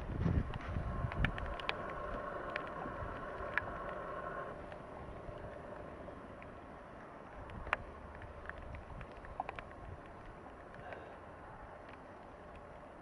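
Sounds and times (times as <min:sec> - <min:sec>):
steady rain falling: 0:00.0 - 0:13.0
faint drip ticks: 0:00.4 - 0:13.0.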